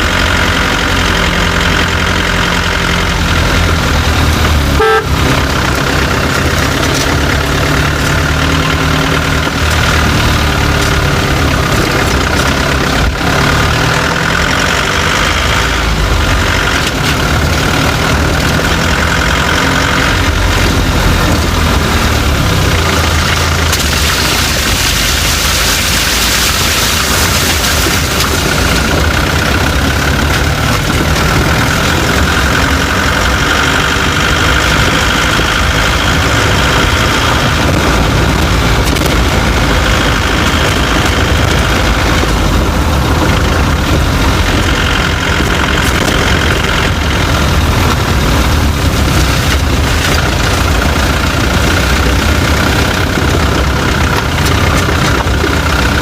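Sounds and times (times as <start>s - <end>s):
car engine running: 0.0s - 56.0s
road noise: 0.0s - 56.0s.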